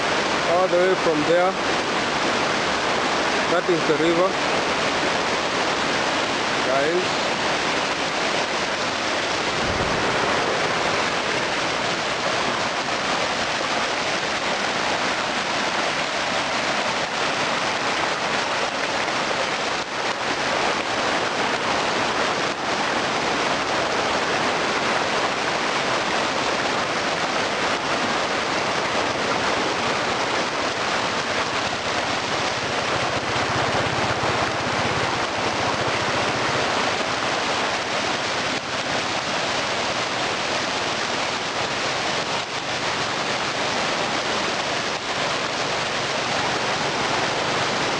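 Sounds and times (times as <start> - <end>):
fast-flowing river rushing: 0.0 - 47.9.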